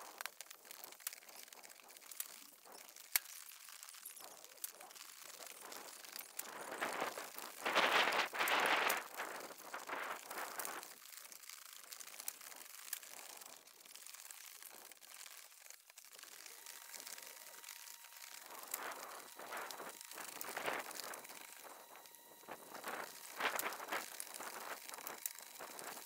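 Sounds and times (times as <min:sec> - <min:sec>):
shingles tearing and scraping: 0:00.0 - 0:26.0.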